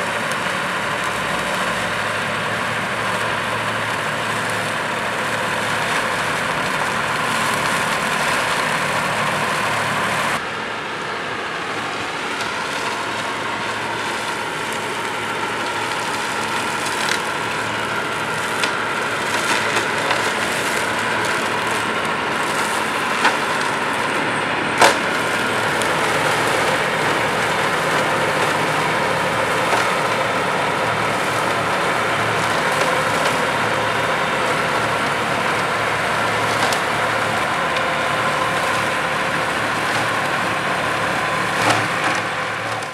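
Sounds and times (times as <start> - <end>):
mower head cutting grass: 0.0 - 10.4, 11.5 - 42.9
tractor engine drone: 0.0 - 42.9.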